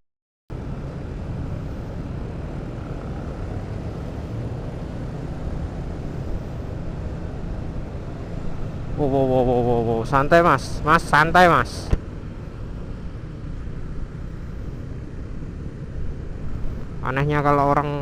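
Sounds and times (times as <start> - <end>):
motorcycle engine rumbling: 0.5 - 17.2
road and traffic noise: 0.5 - 18.0.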